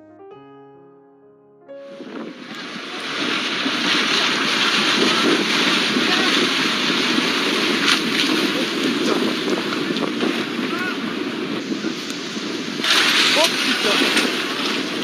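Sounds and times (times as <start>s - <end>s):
roar of mud and rocks rushing: 2.5s - 15.0s.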